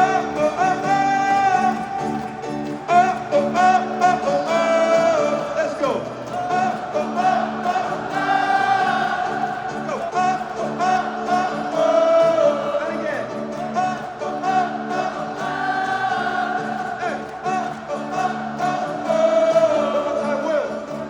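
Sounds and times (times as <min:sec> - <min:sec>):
voices singing held notes: 0:00.0 - 0:21.0.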